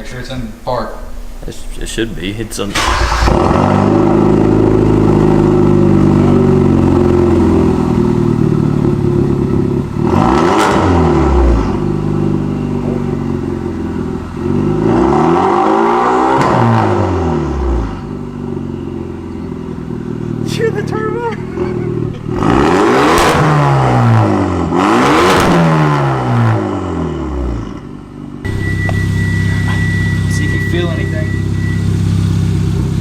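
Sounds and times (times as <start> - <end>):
car engine idling and revving: 2.7 - 33.0.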